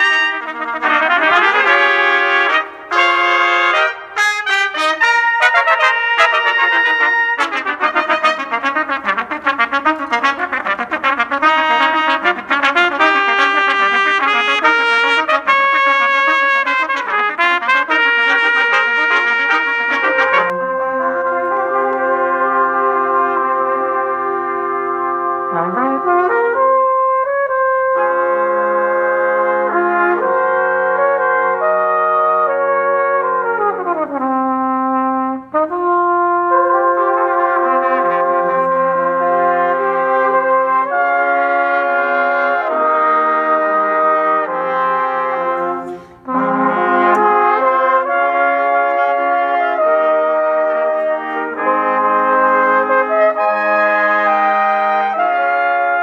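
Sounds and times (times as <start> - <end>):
trumpet ensemble playing chords: 0.0 - 56.0.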